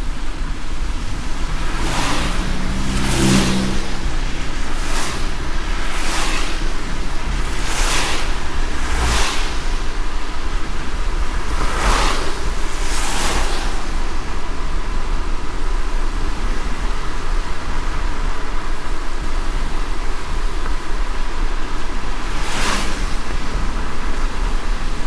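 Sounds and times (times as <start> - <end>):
car driving on wet road: 0.0 - 25.0
light rain: 0.0 - 25.0.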